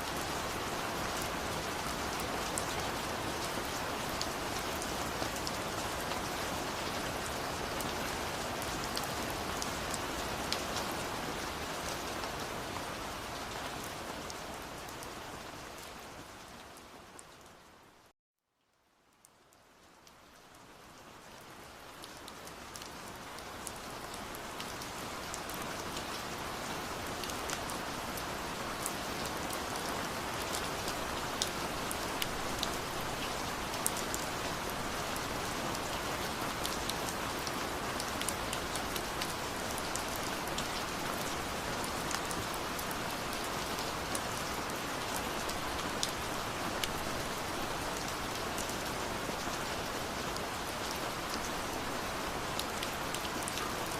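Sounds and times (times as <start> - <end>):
steady rain falling: 0.0 - 53.9
sharp ticks of raindrops: 0.1 - 17.7, 18.6 - 53.9.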